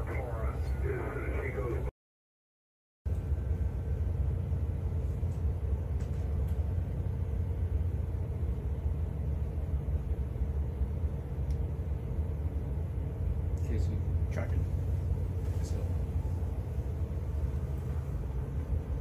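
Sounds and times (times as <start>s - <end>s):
steady low rumble: 0.0s - 1.9s, 3.1s - 19.0s.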